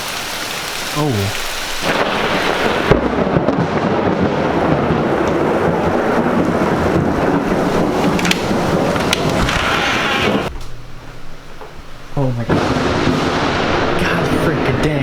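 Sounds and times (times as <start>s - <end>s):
rain: 0.0s - 15.0s
sharp thunder crack: 1.8s - 11.5s, 12.2s - 15.0s
thunder rolling and rumbling: 1.8s - 15.0s.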